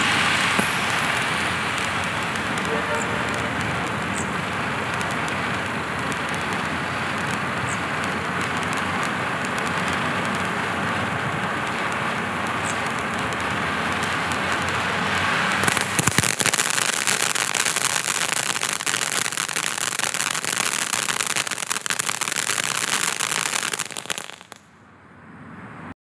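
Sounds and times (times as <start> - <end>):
firework fountain hissing: 0.0 - 24.6
dense firework crackling: 0.0 - 24.7.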